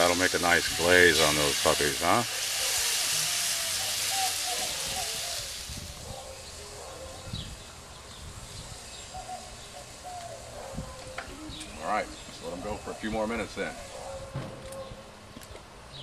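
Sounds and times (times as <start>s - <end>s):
chicken sizzling on grill: 0.0s - 14.2s
birds chirping: 0.0s - 16.0s.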